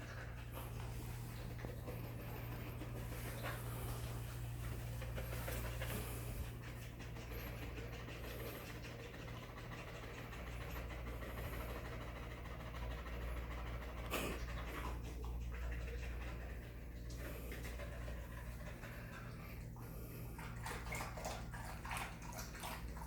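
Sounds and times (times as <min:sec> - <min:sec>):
dogs panting: 0:00.0 - 0:23.0
steady low hum: 0:00.0 - 0:23.0.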